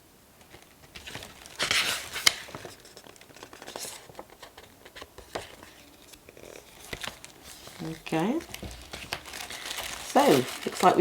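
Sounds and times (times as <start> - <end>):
paper and plastic rustling: 0.4 - 11.0.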